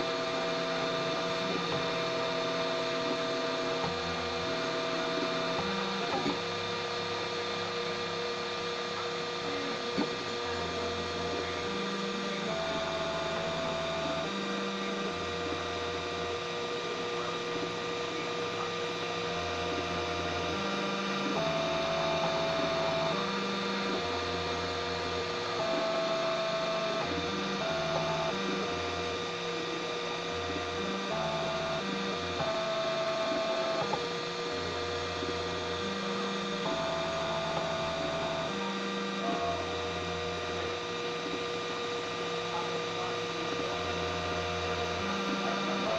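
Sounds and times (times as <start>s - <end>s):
stepper motors whining: 0.0s - 45.9s.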